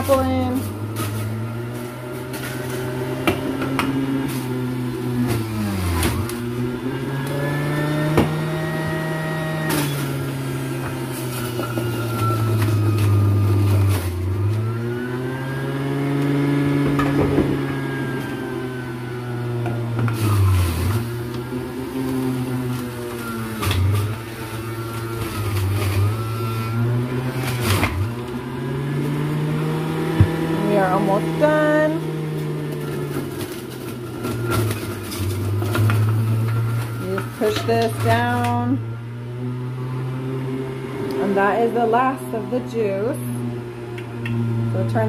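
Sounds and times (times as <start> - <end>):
electric juicer motor running: 0.0 - 45.0.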